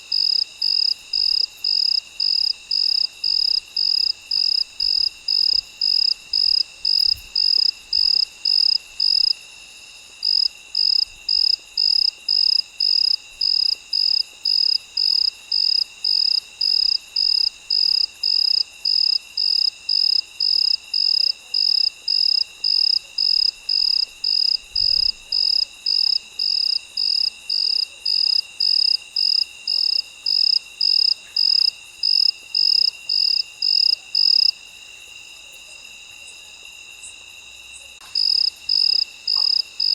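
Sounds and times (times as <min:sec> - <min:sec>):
cricket chirping: 0:00.0 - 0:39.9
insects trilling: 0:00.0 - 0:39.9.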